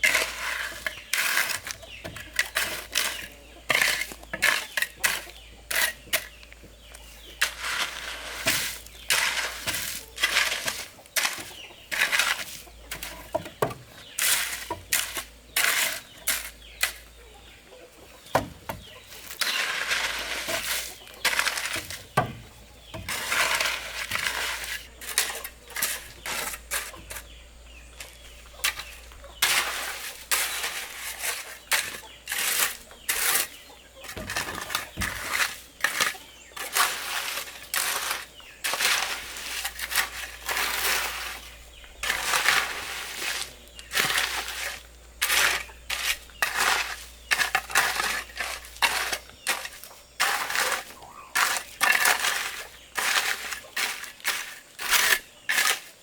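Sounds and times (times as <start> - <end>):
scratchy sounds: 0.0 - 17.2, 18.4 - 56.0
poultry clucking: 0.0 - 56.0.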